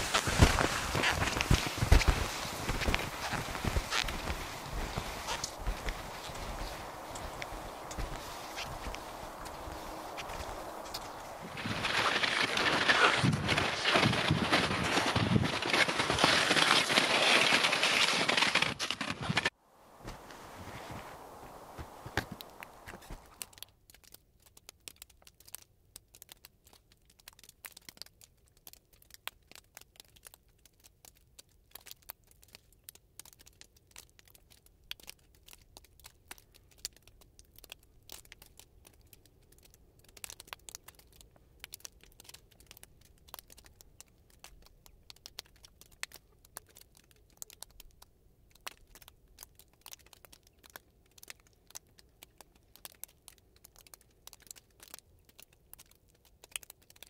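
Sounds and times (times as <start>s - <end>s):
faint crackling and crinkling: 0.0s - 57.0s.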